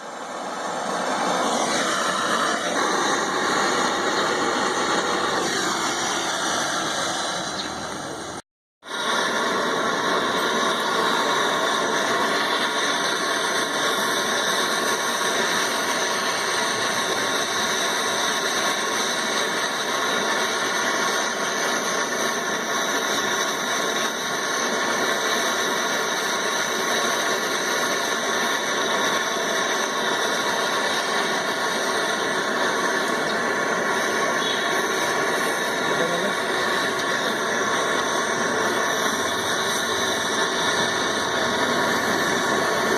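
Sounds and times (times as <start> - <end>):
gas torch flame hissing: 0.0 - 42.9.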